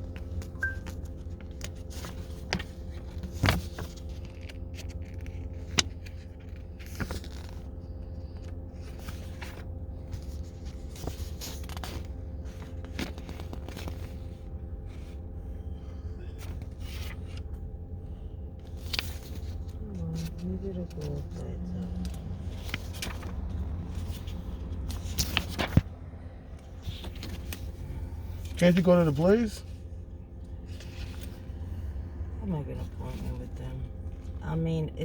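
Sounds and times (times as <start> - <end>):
car cabin hum: 0.0 - 35.0.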